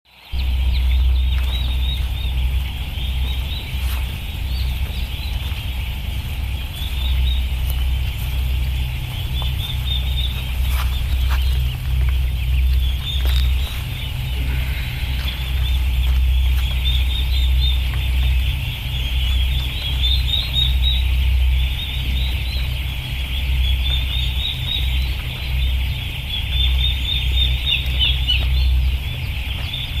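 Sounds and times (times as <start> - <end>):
steady low rumble: 0.1 - 30.0
flock of poultry calling: 0.2 - 30.0.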